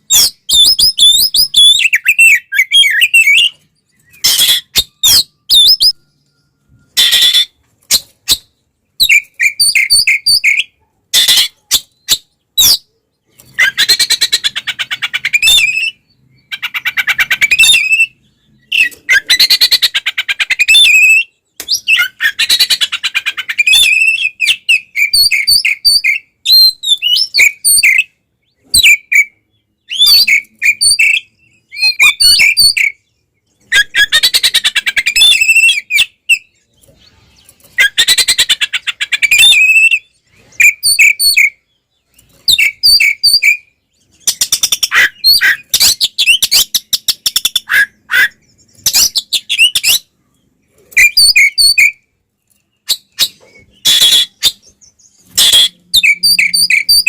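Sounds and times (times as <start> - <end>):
songbird singing trills and whistles: 0.0 - 57.0.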